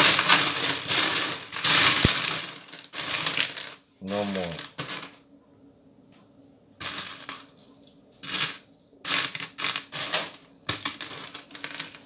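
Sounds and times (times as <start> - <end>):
coins clinking and jingling: 0.0 - 5.1, 6.8 - 12.0.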